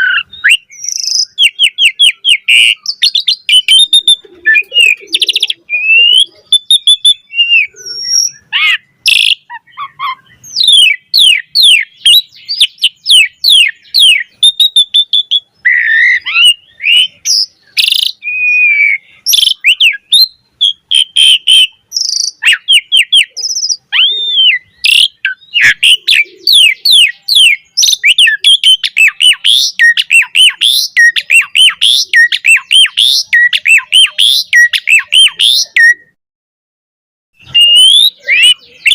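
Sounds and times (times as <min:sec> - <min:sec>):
bird singing: 0:00.0 - 0:36.2, 0:37.4 - 0:38.9.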